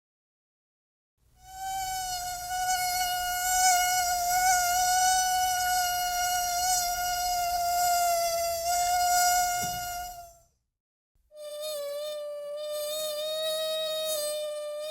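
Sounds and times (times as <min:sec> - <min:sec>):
mosquito buzzing: 0:01.4 - 0:10.5, 0:11.4 - 0:14.9.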